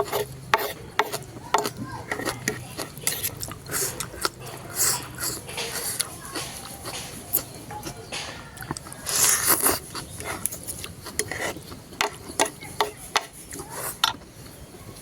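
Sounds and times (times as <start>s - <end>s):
chewing clicks and crackles: 0.0s - 14.6s
utensil against plate: 0.0s - 14.6s.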